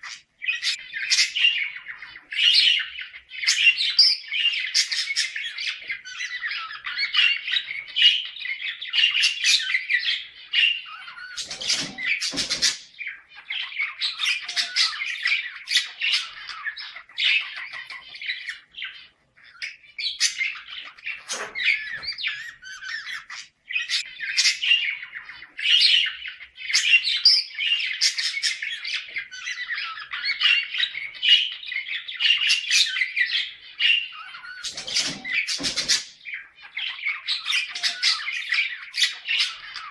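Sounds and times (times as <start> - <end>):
budgerigars chattering: 0.0 - 39.9
loud sharp bird sounds: 0.0 - 39.9.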